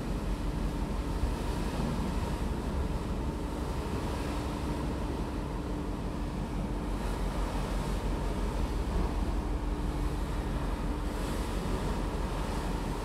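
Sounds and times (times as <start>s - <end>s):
ferry engine drone: 0.0s - 13.0s
wind and water rushing: 0.0s - 13.0s.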